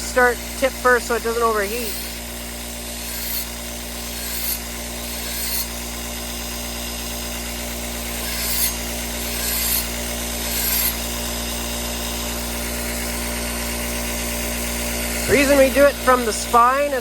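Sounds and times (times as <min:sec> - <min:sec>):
blade scraping on grinder: 0:00.0 - 0:17.0
grinder motor humming: 0:00.0 - 0:17.0.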